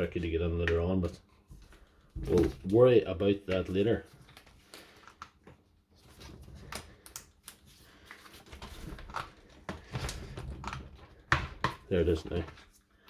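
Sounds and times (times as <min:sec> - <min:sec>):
soft handling noise: 0:00.0 - 0:13.0.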